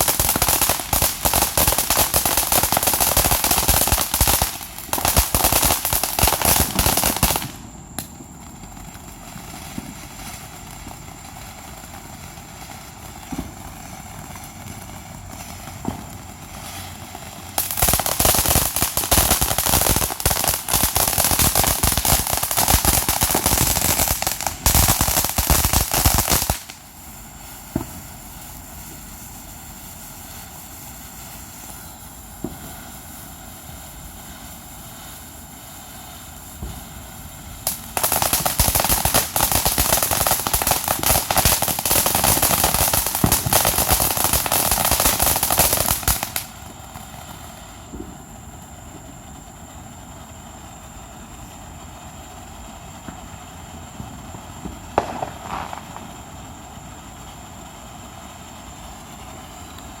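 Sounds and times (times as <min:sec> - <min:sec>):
firework pops and crackling: 0:00.0 - 1:00.0.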